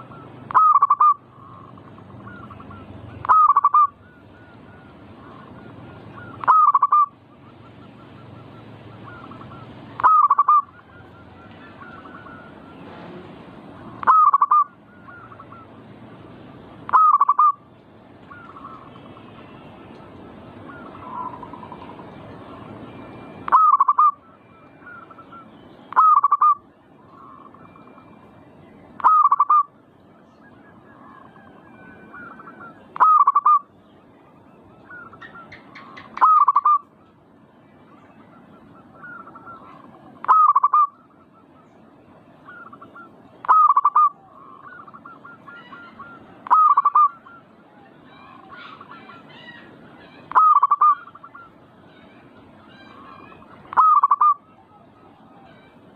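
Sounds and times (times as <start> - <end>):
dove cooing: 0.0 - 13.2, 13.8 - 15.8, 16.9 - 19.0, 20.6 - 28.2, 29.0 - 29.8, 30.4 - 33.7, 34.8 - 36.9, 38.0 - 41.8, 42.4 - 51.6, 52.6 - 55.8.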